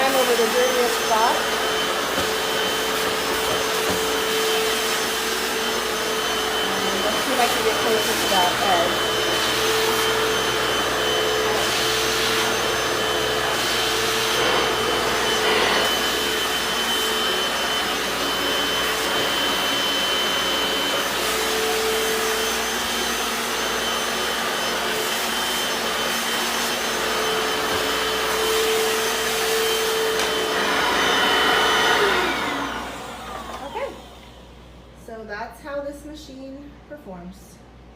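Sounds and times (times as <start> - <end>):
floor cleaner motor whining: 0.0 - 35.3.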